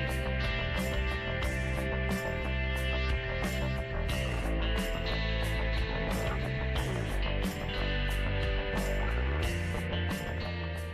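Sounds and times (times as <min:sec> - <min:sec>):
guitar rock music: 0:00.0 - 0:10.9.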